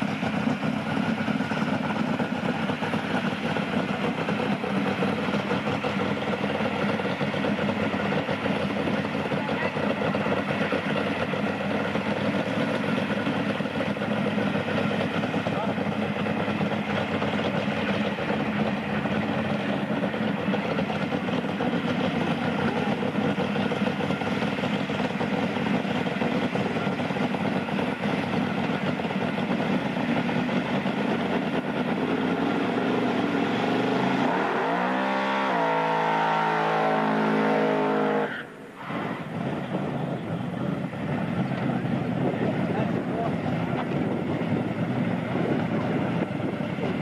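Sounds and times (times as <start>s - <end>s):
drag car engine revving: 0.0s - 47.0s
tyres spinning on asphalt: 0.0s - 47.0s.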